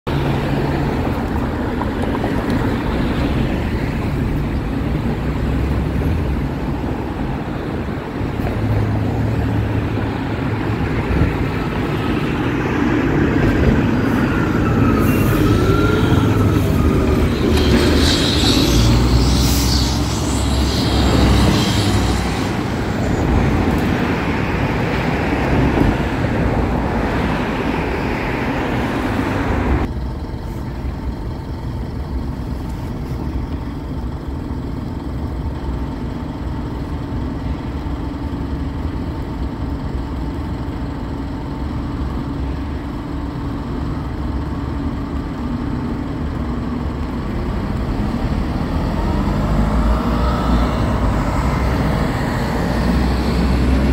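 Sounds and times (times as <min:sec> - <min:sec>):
street traffic noise: 0:00.0 - 0:53.9
fire truck diesel engine: 0:00.1 - 0:53.9.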